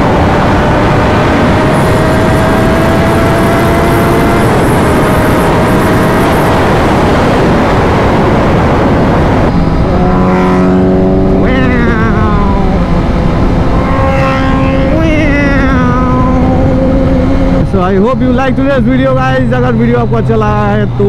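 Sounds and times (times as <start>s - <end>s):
motorcycle engine running: 0.0s - 7.4s, 9.5s - 21.0s
wind rushing over helmet: 0.0s - 17.8s.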